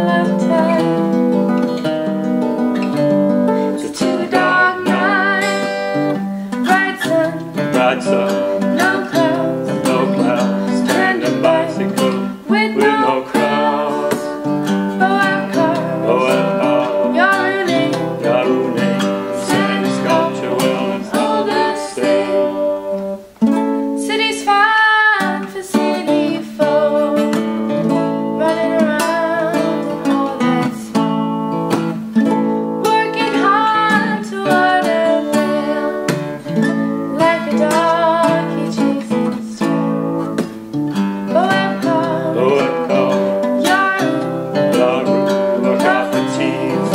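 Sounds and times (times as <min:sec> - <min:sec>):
acoustic guitar strumming: 0:00.0 - 0:46.9
ukulele strumming: 0:00.0 - 0:46.9.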